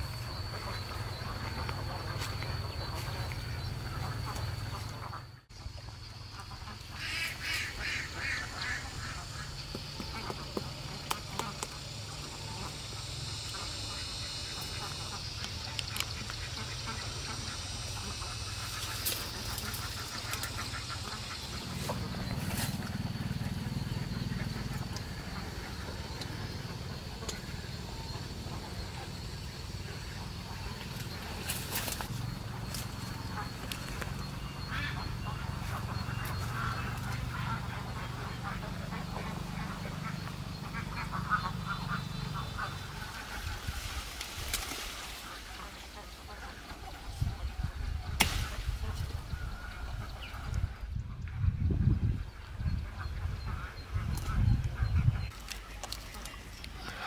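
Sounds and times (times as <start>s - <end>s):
ducks quacking: 0.0s - 57.0s
steady low hum: 0.0s - 57.0s.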